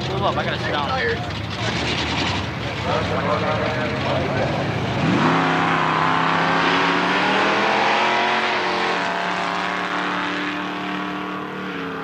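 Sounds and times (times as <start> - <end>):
cars accelerating hard: 1.5 - 12.0.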